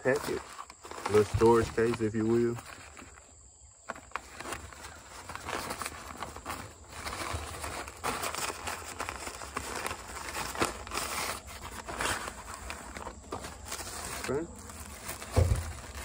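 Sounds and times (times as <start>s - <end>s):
plastic and fabric rustling: 0.0s - 16.0s.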